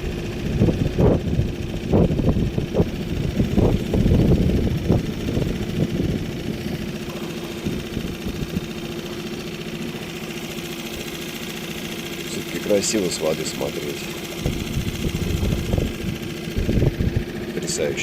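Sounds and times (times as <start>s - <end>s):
small boat motor running: 0.0s - 18.0s.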